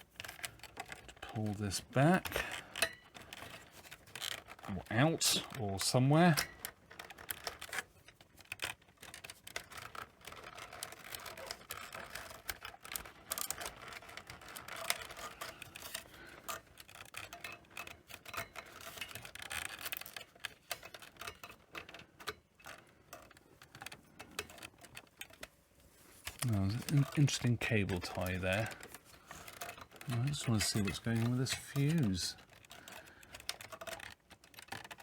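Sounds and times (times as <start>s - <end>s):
hands clicking and rustling: 0.0s - 35.0s.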